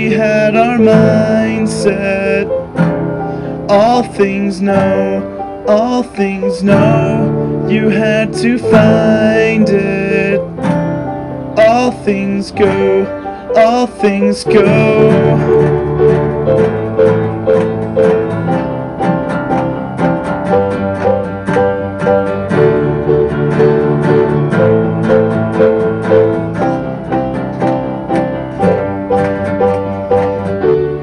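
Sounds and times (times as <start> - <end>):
plucked strings picking: 0.0 - 31.0.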